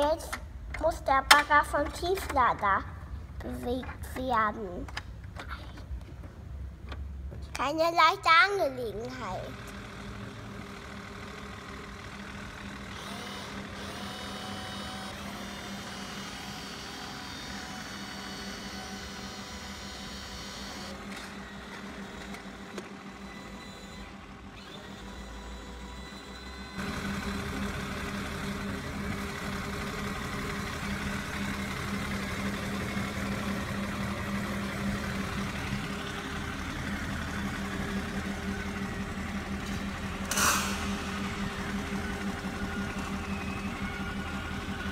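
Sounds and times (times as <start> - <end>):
faint motor whines: 8.9 - 44.9
model crane motors humming: 9.0 - 44.9.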